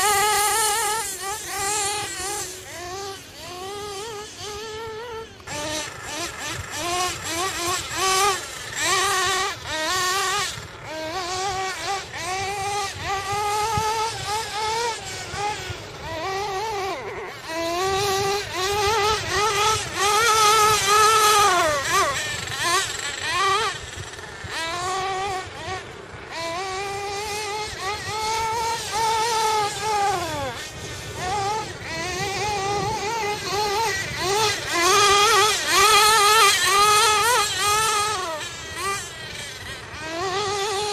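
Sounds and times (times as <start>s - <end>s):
rc car engine revving: 0.0s - 40.9s.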